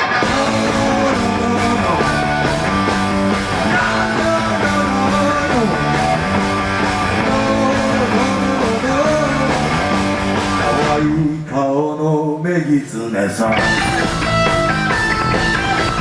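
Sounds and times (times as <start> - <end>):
electric guitar: 0.0 - 11.2, 13.5 - 16.0
bass guitar: 0.0 - 11.4, 13.5 - 16.0
drums: 0.0 - 11.5, 13.5 - 16.0.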